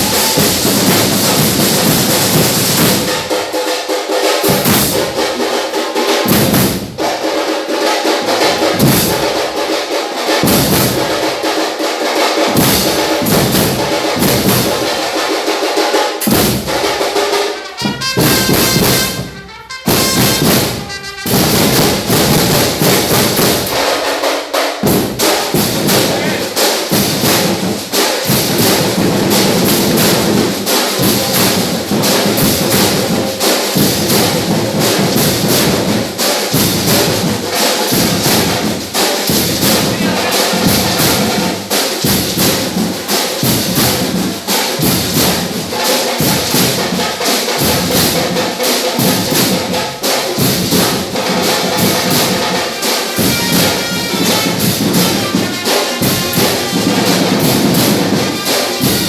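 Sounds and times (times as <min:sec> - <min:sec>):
marching band playing: 0:00.0 - 0:59.0
marching drums and cymbals: 0:00.0 - 0:59.0.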